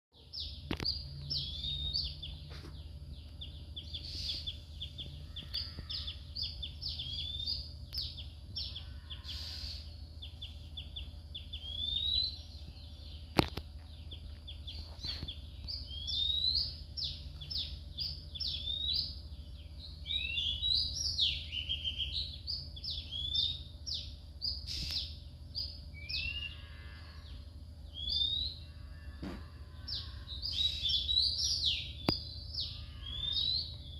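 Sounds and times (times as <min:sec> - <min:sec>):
small birds chirping: 0:00.2 - 0:33.9
steady low hum: 0:00.2 - 0:33.9.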